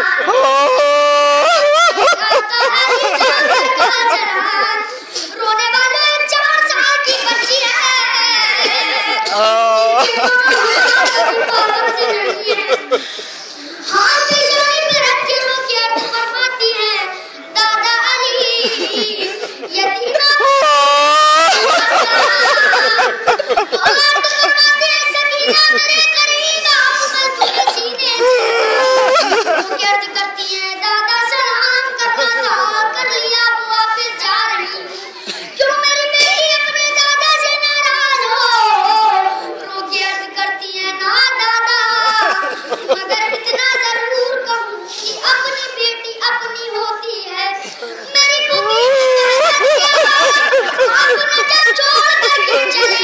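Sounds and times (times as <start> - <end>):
boy singing a mourning lament: 0.0 - 13.0, 13.8 - 53.0.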